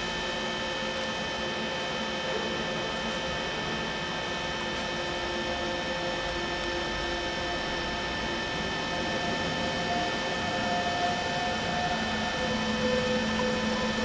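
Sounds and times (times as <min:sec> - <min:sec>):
electric train hum and whine: 0:00.0 - 0:14.0.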